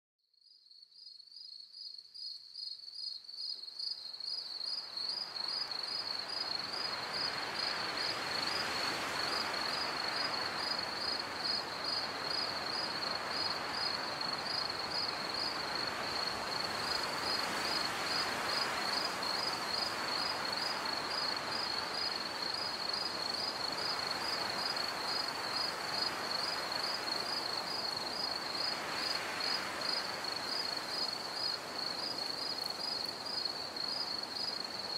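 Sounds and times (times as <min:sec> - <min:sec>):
crickets chirping: 0:00.4 - 0:34.9.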